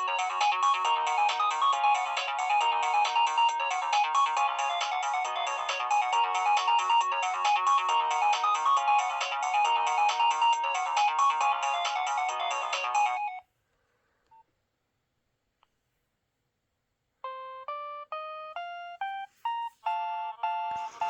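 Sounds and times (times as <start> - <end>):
busy many-note ringtone: 0.0 - 13.4, 17.3 - 21.0
ringtone melody of clear notes: 0.0 - 13.4, 17.2 - 21.0.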